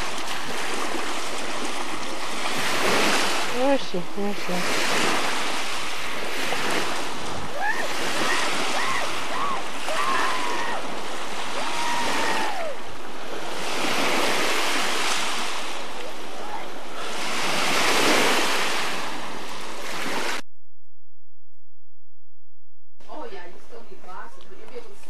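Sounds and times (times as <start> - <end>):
waves washing at shore: 0.0 - 20.4.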